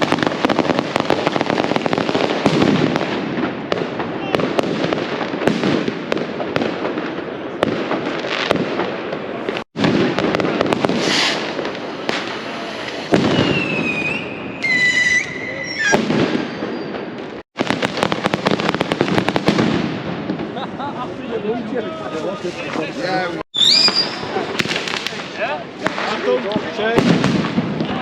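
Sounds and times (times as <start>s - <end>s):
whistling fireworks shrieking: 0.0s - 20.5s, 23.5s - 28.0s
firecrackers banging: 0.0s - 21.3s, 22.2s - 28.0s.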